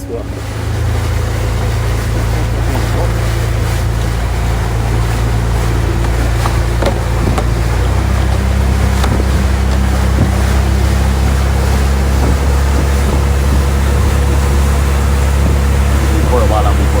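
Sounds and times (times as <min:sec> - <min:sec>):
motorboat engine running: 0:00.0 - 0:17.0
wind and water rushing: 0:00.0 - 0:17.0.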